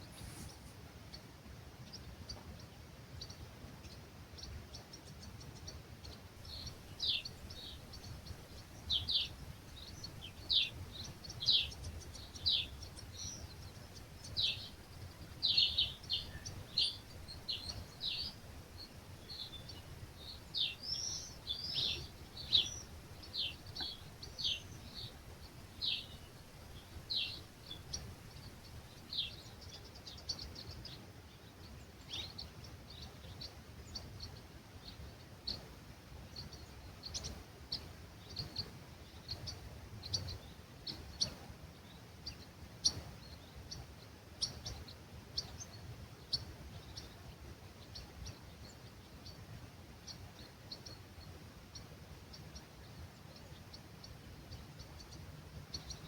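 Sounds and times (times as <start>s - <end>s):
songbird calling: 1.8s - 35.7s, 36.3s - 56.0s.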